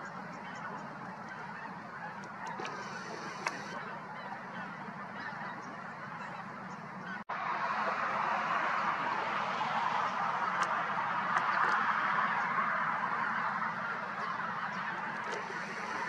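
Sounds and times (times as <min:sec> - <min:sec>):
flock of waterbirds calling: 0:00.0 - 0:16.0.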